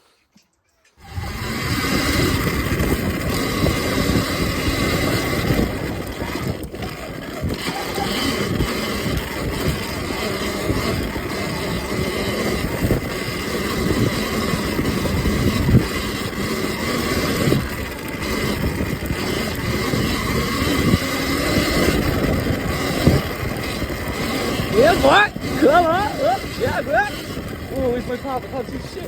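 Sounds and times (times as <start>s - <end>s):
electric motor whine: 1.0s - 29.0s
wind buffeting: 1.0s - 29.0s.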